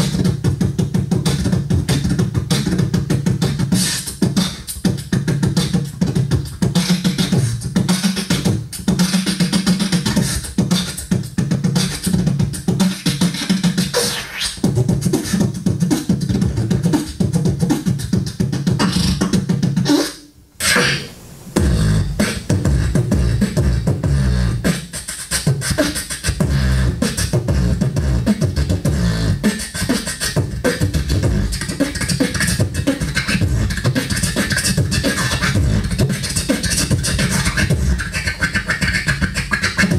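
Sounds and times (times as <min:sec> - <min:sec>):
person beatboxing: 0:00.0 - 0:39.9.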